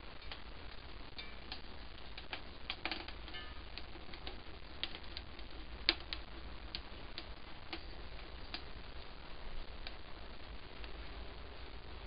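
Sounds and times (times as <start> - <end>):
eggs frying with sharp pops: 0.0 - 12.0.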